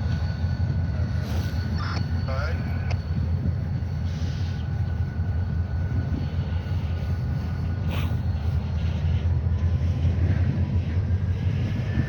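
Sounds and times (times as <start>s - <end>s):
freight train rumbling: 0.0s - 12.0s.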